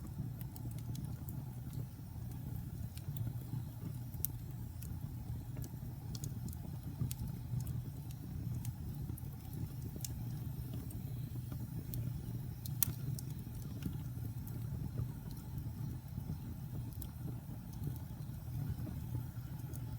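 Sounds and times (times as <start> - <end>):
low rumble of flames: 0.0 - 19.9
wood fire crackling and popping: 0.0 - 19.9.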